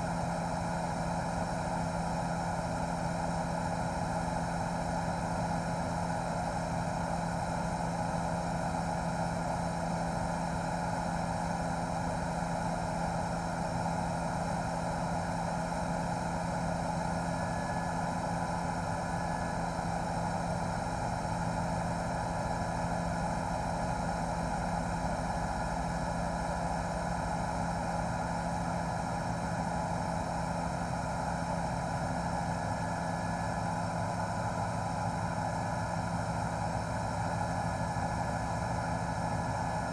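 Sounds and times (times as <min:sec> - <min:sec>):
helicopter engine and rotors droning: 0:00.0 - 0:39.9.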